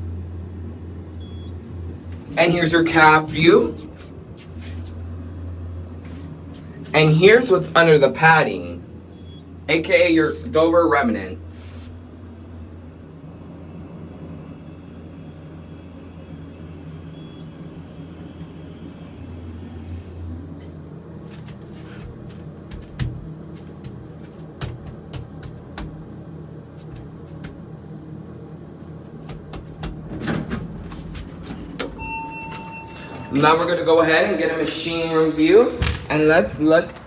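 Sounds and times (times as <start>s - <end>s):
elevator hum and rumble: 0.0s - 37.0s.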